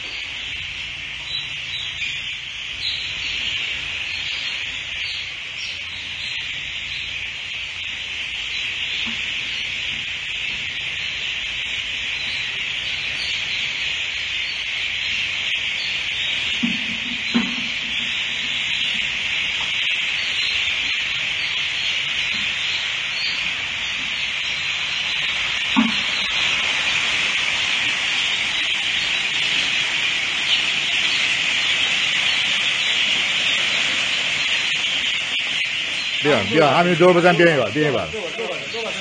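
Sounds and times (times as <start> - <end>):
chicks peeping: 0.0 - 39.0.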